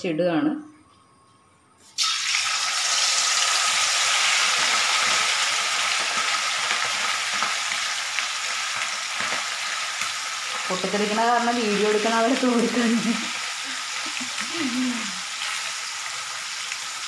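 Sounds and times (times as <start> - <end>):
prawns sizzling in hot oil: 1.9 - 17.0.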